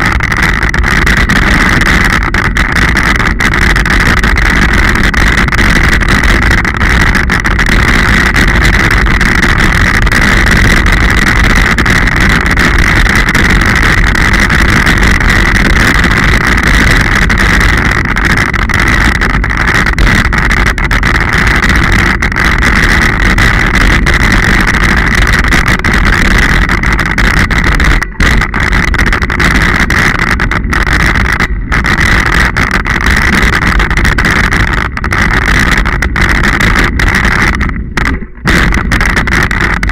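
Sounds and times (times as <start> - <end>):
bike riding rumble: 0.0 - 39.9
wind noise: 0.0 - 39.9.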